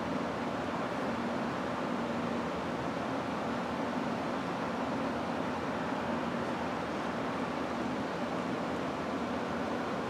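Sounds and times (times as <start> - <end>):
outdoor background rush: 0.0 - 10.0.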